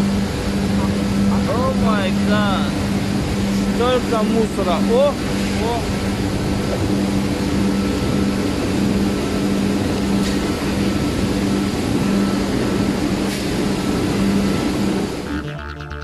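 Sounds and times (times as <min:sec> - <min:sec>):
machinery droning: 0:00.0 - 0:16.0.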